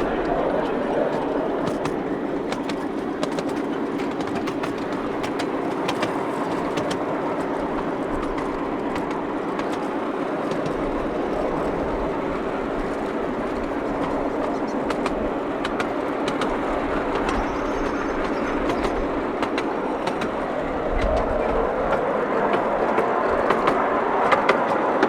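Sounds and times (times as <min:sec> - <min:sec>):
miniature train droning: 0:00.0 - 0:25.0
wheels clicking on track: 0:00.0 - 0:25.0.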